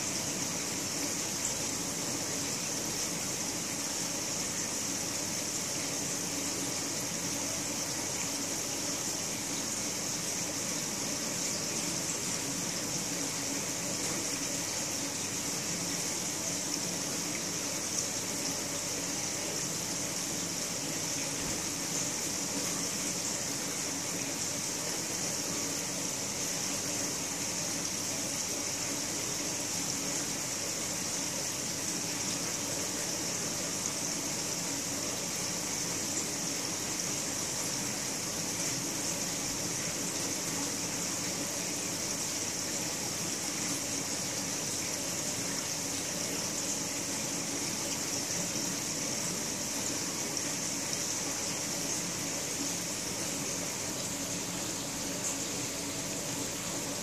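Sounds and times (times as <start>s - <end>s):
aquarium filter water rushing: 0.0s - 57.0s.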